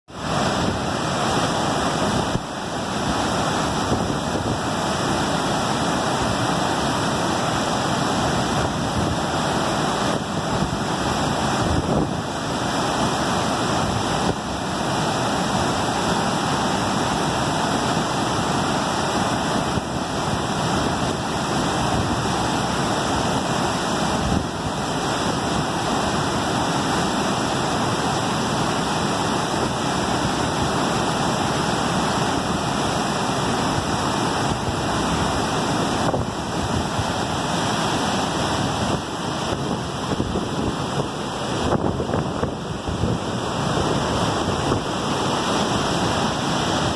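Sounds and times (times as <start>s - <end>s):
waterfall rushing: 0.1s - 46.9s.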